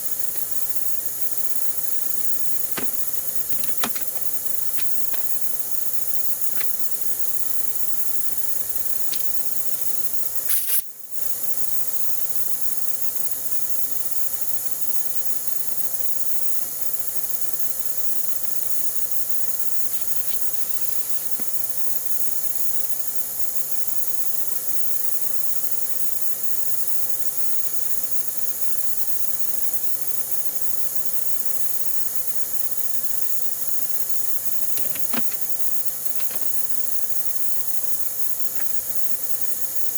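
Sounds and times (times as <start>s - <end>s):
steady hiss: 0.0s - 13.7s, 14.3s - 39.9s.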